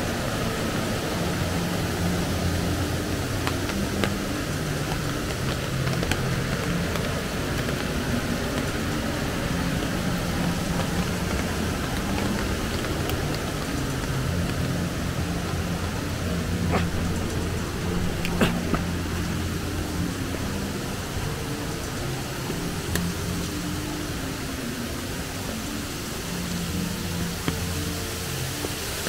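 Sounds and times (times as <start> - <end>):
river rapids rushing over rocks: 0.0 - 29.0.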